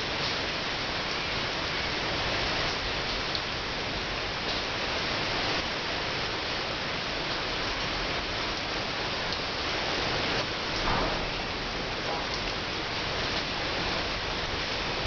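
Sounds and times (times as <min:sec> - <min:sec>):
rain on wet paving and leaves: 0:00.0 - 0:15.0.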